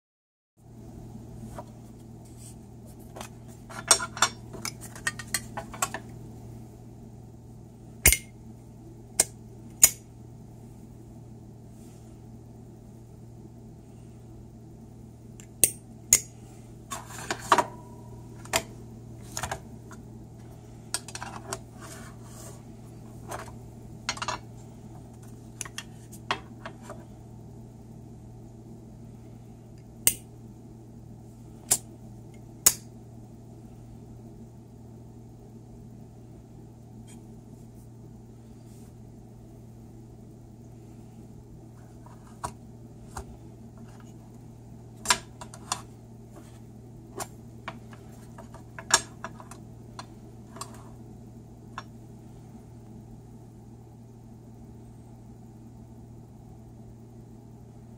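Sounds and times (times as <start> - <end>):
steady low hum: 0.6 - 57.9.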